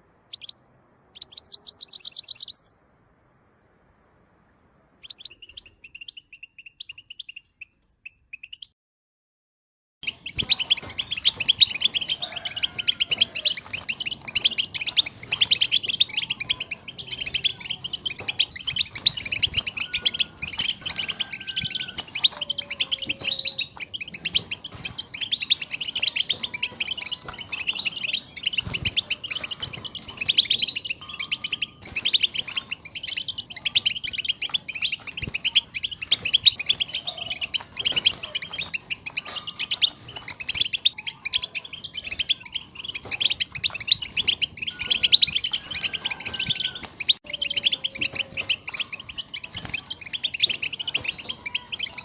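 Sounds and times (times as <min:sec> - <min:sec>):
finch twittering: 0:00.0 - 0:02.8, 0:05.0 - 0:08.7, 0:10.0 - 0:52.0.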